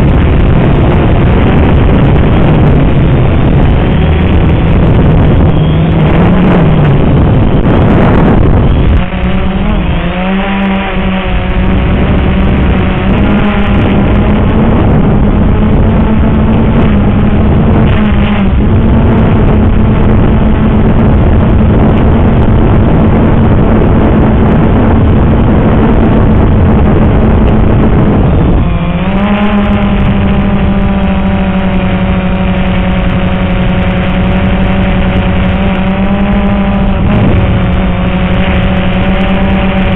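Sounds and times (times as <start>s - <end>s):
quadcopter motors whining: 0.0s - 39.9s
wind noise on microphone: 0.0s - 39.9s.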